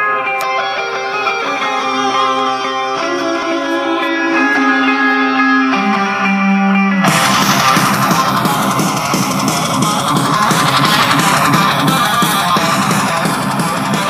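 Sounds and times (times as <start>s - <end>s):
guitar rock music over loudspeaker: 0.0s - 14.0s.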